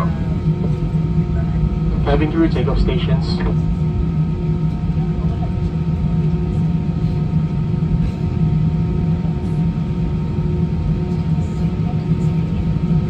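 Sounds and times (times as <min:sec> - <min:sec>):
airliner cabin engine rumble: 0:00.0 - 0:13.0
steady tonal hum: 0:00.0 - 0:13.0.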